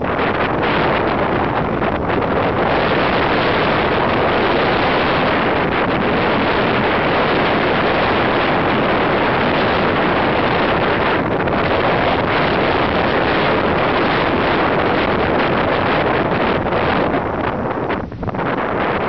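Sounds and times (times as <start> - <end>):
surf breaking on shore: 0.0 - 19.0
wind buffeting microphone: 0.0 - 19.0.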